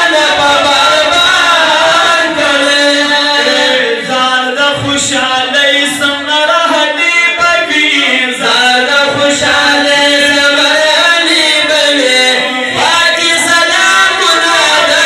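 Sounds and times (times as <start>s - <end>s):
men singing a devotional chant: 0.0s - 15.0s.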